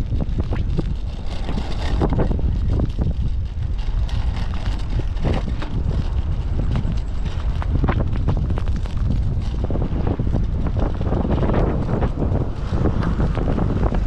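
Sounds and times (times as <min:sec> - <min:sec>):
knocks and rattles: 0:00.0 - 0:14.0
wind buffeting microphone: 0:00.0 - 0:14.0.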